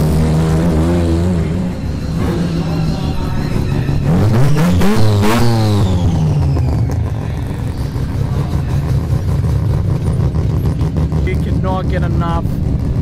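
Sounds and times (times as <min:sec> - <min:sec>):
car engine revving: 0:00.0 - 0:13.0
cars driving off: 0:00.0 - 0:13.0.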